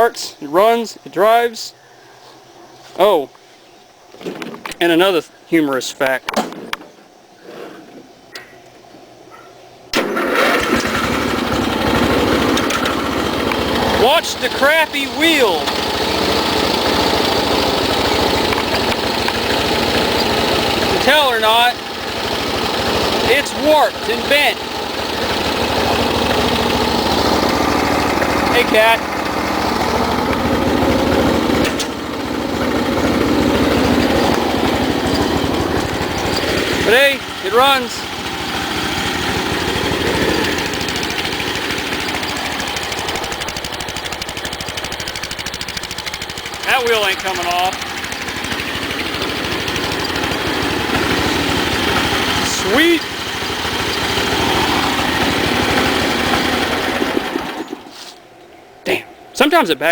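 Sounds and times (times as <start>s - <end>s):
riding mower engine running: 9.9s - 58.2s.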